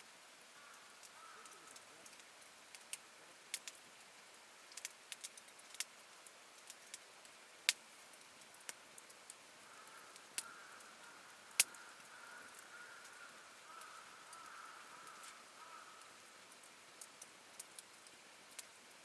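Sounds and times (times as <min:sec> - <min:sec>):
campfire crackling: 0:00.3 - 0:19.0.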